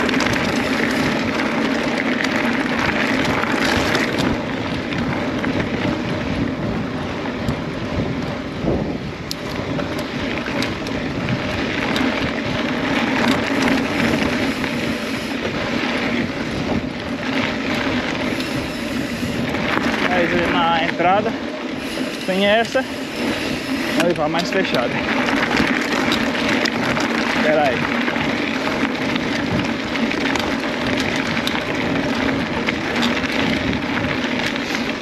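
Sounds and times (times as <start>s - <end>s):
bike clicks and rattles: 0.0s - 35.0s
tyres rumbling on dirt: 0.0s - 35.0s
wind on microphone: 0.0s - 35.0s.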